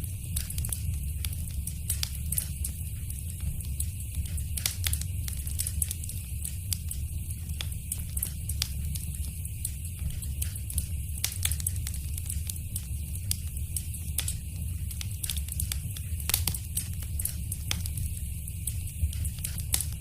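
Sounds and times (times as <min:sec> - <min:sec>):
fire popping and snapping: 0:00.0 - 0:20.0
wood fire crackling: 0:00.0 - 0:20.0.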